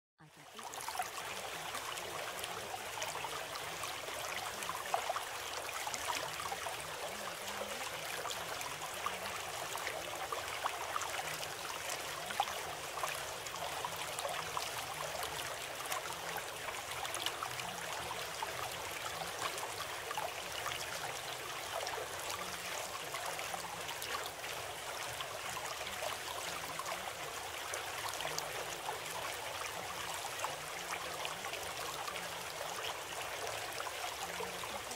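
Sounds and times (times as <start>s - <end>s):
flowing water: 0.2s - 34.9s.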